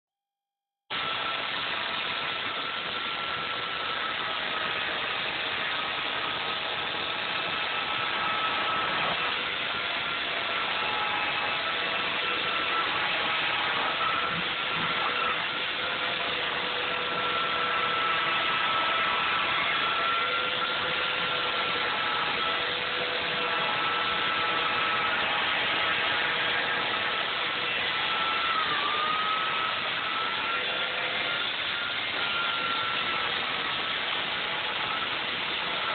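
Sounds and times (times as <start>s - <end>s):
electric chainsaw cutting foam: 0.9s - 35.9s.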